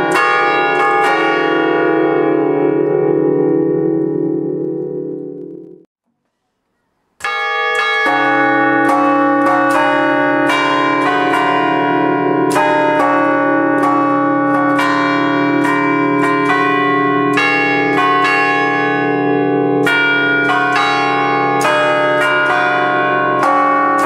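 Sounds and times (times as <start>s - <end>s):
church bells playing a tune: 0.0s - 5.9s, 7.2s - 24.0s.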